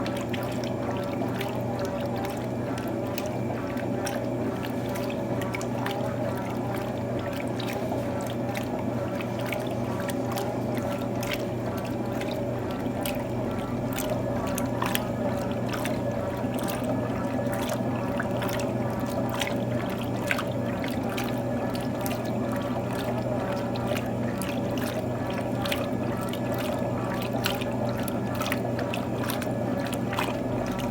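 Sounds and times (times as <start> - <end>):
washing machine motor hum: 0.0 - 30.9
water splashing and sloshing: 0.0 - 30.9.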